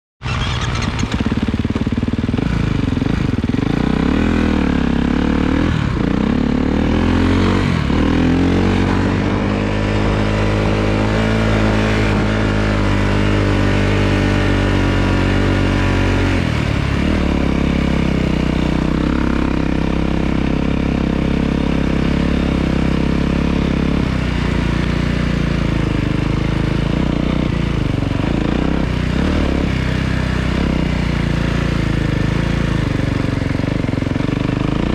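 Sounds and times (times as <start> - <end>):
snowbike engine running: 0.2 - 34.9.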